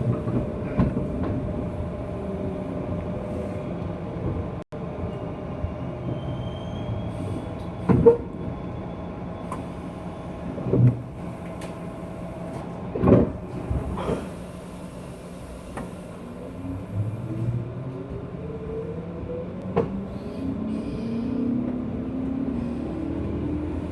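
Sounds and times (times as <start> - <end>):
electric train rumble and hum: 0.0 - 23.9.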